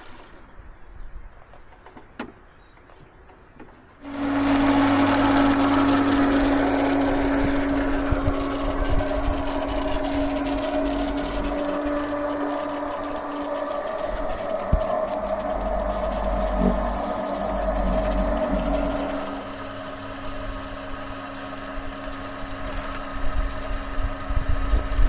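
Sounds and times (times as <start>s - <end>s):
small motor humming: 4.0s - 25.0s.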